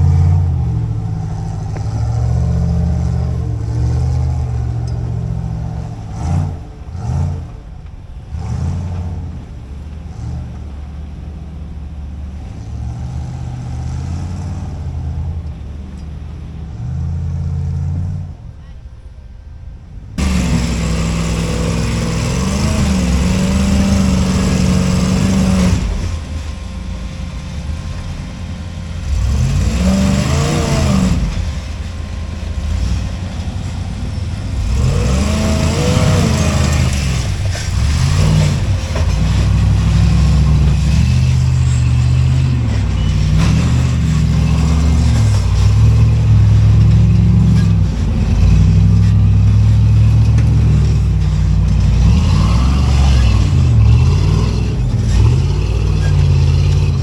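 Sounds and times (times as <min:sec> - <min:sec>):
engine revving under load: 0:00.0 - 0:57.0.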